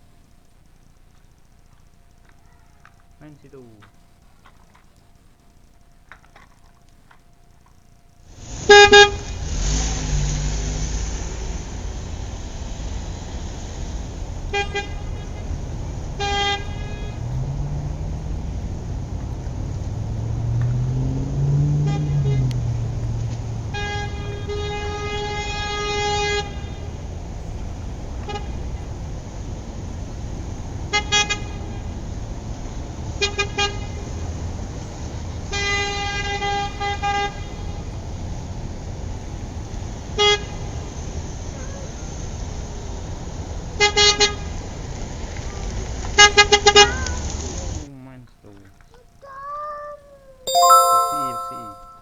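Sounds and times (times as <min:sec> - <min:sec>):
low rumble of engine: 0:00.0 - 0:49.2.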